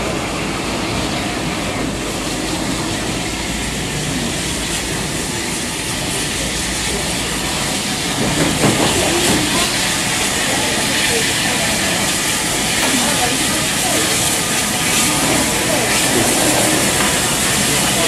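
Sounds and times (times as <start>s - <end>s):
steam hissing: 0.0s - 18.0s
train wheels rumbling over track: 0.0s - 18.0s.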